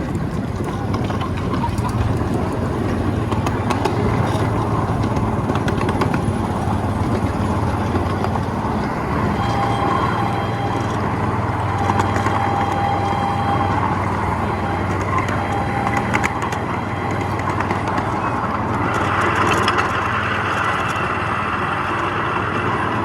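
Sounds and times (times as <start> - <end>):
miniature train rumbling: 0.0 - 23.0
sharp track clicks: 0.0 - 23.0.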